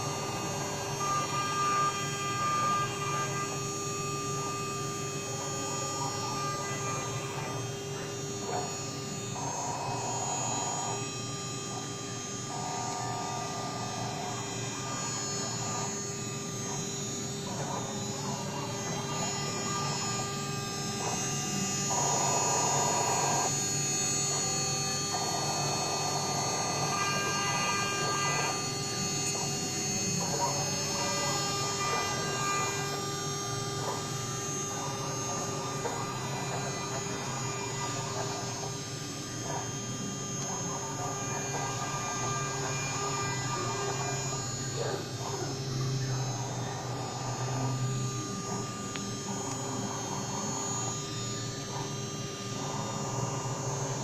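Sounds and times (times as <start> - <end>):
buzzing note: 0.0 - 54.0
cnc router whining: 0.0 - 54.0.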